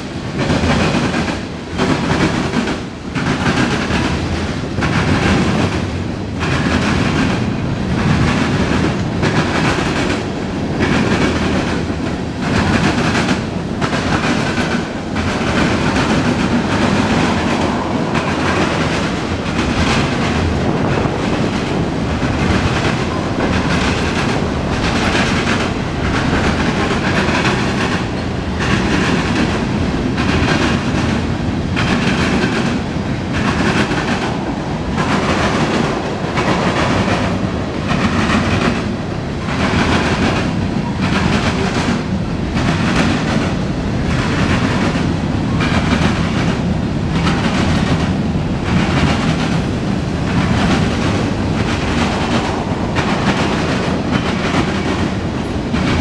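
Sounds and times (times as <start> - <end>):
train wheels rumbling on rail: 0.0 - 56.0
wheels clickety-clack on rail joints: 0.0 - 56.0.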